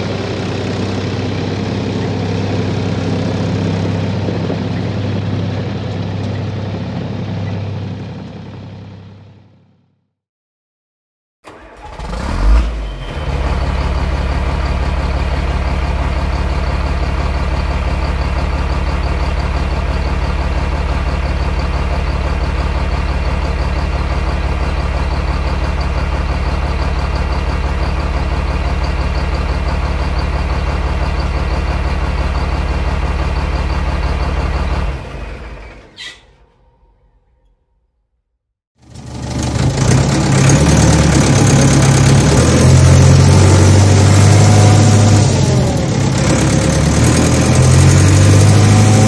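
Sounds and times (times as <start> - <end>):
diesel engine running: 0.0 - 9.9, 11.5 - 37.0, 38.8 - 49.0.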